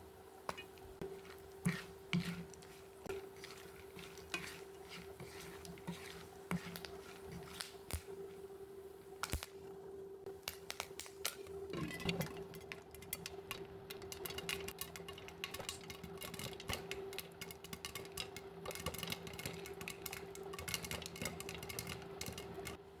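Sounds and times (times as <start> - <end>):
popcorn popping: 0.5 - 9.6, 10.3 - 23.0.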